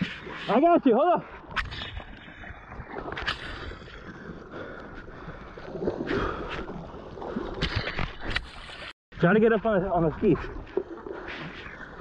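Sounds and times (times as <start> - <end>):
seawater splashing: 0.0 - 12.0.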